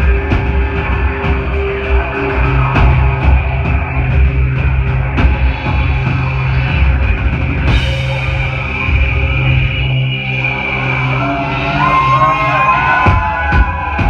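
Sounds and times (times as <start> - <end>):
deep synth bass line: 0.0 - 14.0
pounding drum beat: 0.0 - 14.0.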